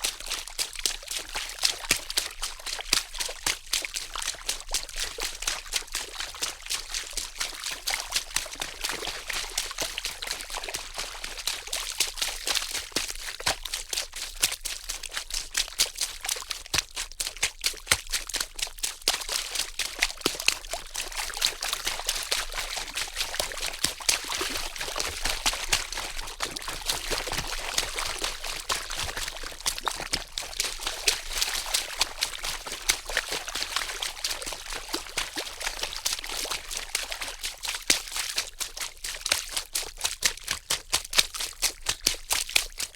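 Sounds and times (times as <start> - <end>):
water splashing and trickling: 0.0 - 42.9.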